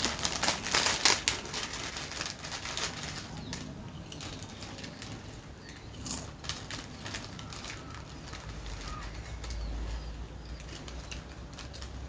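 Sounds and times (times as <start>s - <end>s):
chip packets crinkling: 0.0s - 12.0s
chips crunching: 0.0s - 12.0s.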